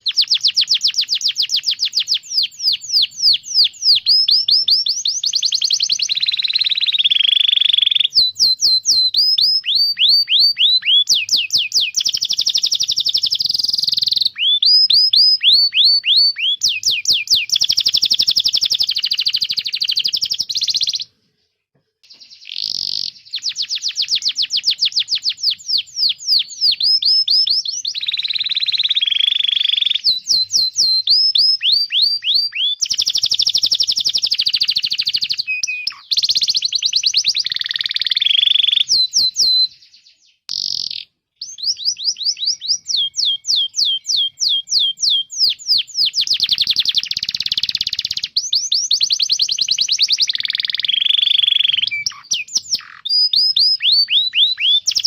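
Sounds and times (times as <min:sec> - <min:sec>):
canary singing: 0:00.0 - 0:21.2, 0:22.0 - 0:55.0.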